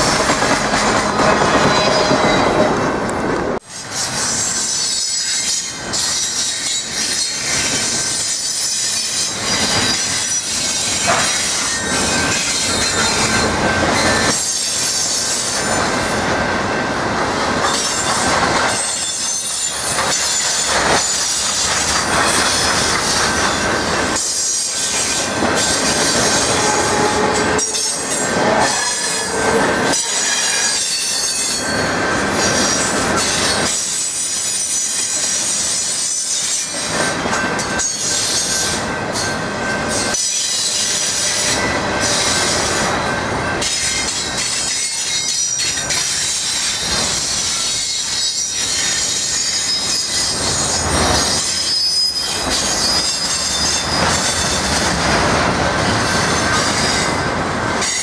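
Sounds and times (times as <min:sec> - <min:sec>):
train wheels squealing: 0:00.0 - 0:03.0, 0:03.7 - 0:58.0.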